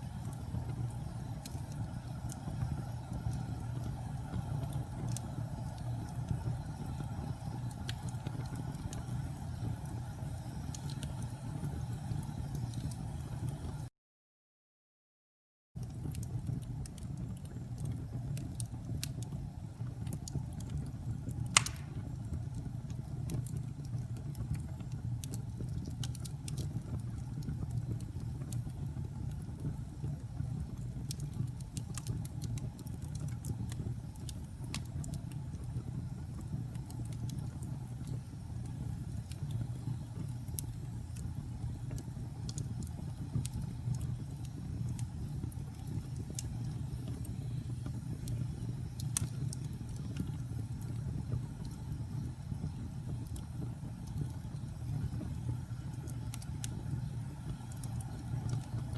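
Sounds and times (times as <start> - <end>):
fire crackling and popping: 0.0 - 13.9, 15.8 - 58.9
fire flames rumbling: 0.0 - 13.9, 15.8 - 58.9.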